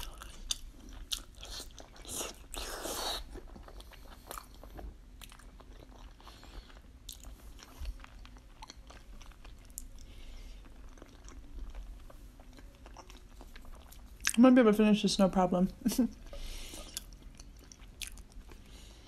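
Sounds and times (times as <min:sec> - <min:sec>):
chewing with mouth clicks: 0:00.0 - 0:14.4, 0:16.1 - 0:18.9.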